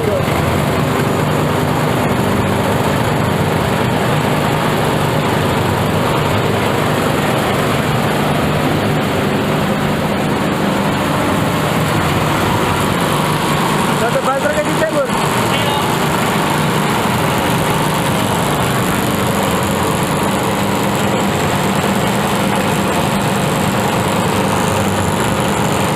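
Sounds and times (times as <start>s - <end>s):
threshing machine running: 0.0s - 25.9s.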